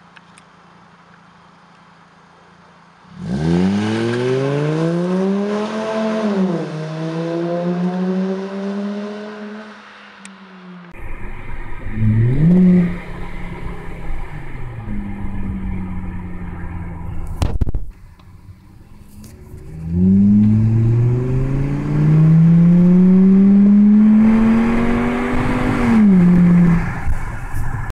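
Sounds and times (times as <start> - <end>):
car engine accelerating: 3.0 - 27.9.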